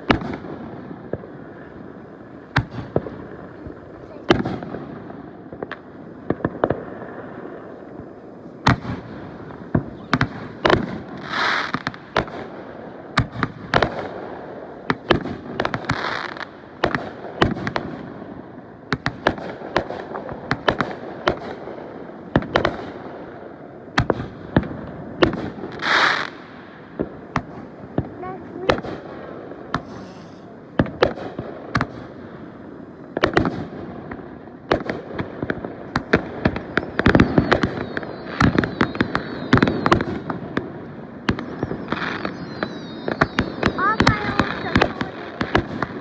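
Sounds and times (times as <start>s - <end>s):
crackling hisses of fireworks: 0.0s - 46.0s
fireworks bangs: 0.0s - 46.0s.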